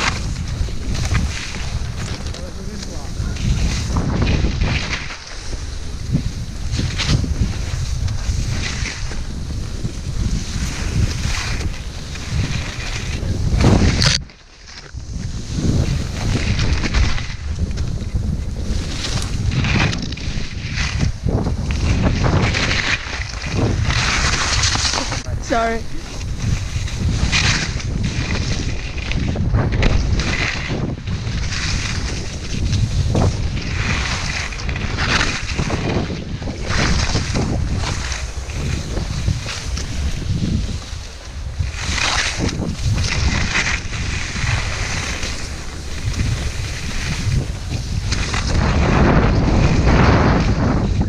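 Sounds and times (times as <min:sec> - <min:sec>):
skis scraping snow: 0:00.0 - 0:51.0
wind buffeting microphone: 0:00.0 - 0:51.0.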